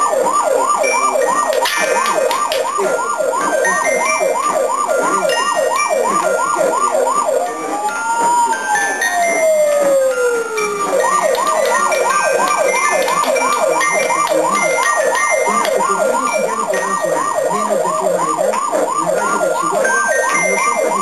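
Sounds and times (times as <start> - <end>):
electronic siren wailing and yelping: 0.0 - 21.0
steady high-pitched tones: 0.0 - 21.0.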